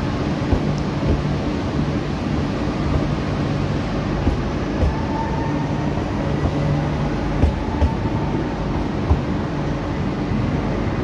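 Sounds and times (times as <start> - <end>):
electric train rumbling past: 0.0 - 11.0.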